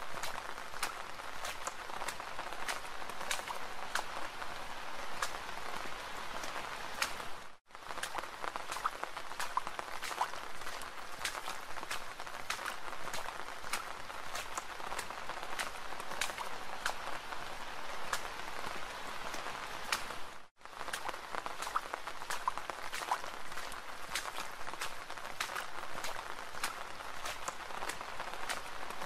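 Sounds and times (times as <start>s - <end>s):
raindrops ticking: 0.0s - 29.0s
steady rain hiss: 0.0s - 29.0s.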